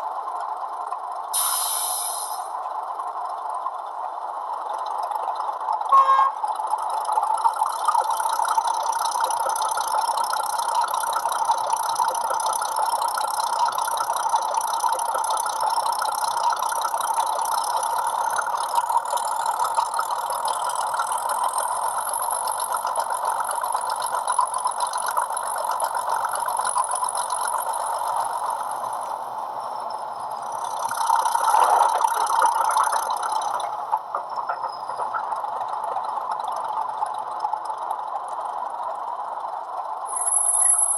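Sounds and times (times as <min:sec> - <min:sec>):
diesel locomotive engine with rattle: 0:00.0 - 0:40.9.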